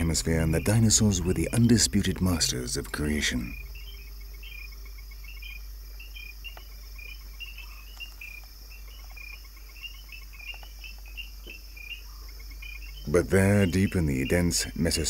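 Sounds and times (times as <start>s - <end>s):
high chirps: 0.0s - 14.8s
insect hiss: 0.0s - 15.0s
low steady hum: 0.0s - 15.0s.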